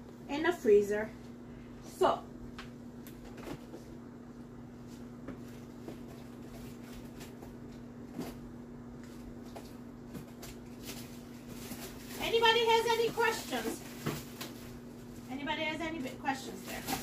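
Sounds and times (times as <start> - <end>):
faint electrical appliance hum: 0.0 - 17.0.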